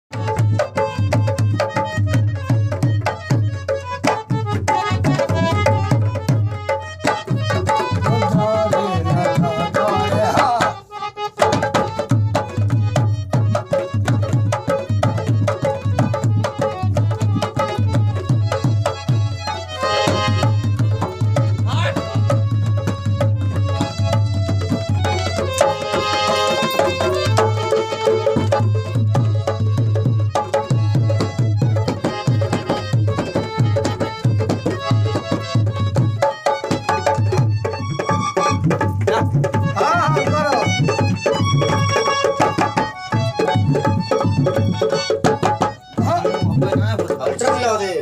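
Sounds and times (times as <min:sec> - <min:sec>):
fast tabla strokes: 0:00.1 - 0:48.0
harmonium melody: 0:00.1 - 0:48.0.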